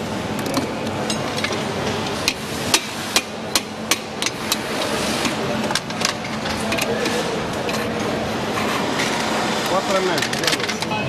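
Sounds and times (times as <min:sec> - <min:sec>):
factory machinery hum: 0:00.0 - 0:11.0.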